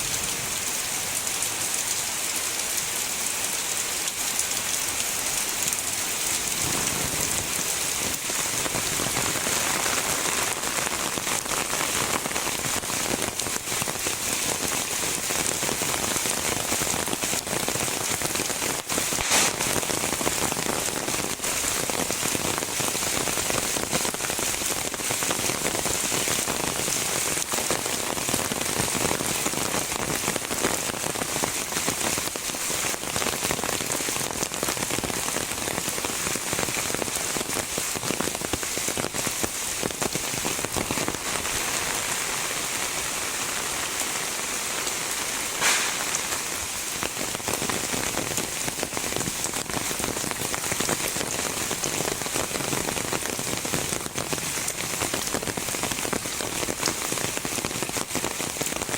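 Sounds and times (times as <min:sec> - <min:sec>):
heavy rain falling: 0:00.0 - 0:58.9
raindrops ticking: 0:04.0 - 0:58.9.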